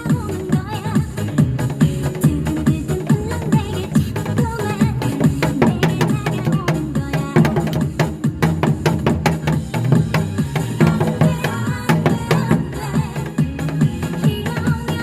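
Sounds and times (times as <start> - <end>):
dance-pop song with bass line: 0.0 - 15.0.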